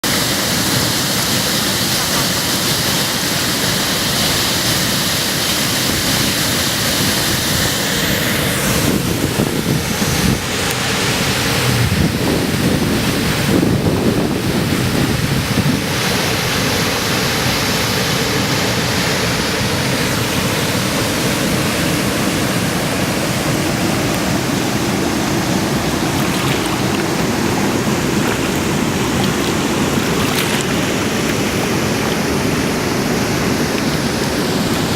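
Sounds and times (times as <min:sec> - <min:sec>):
waterfall rushing over rocks: 0:00.0 - 0:34.9.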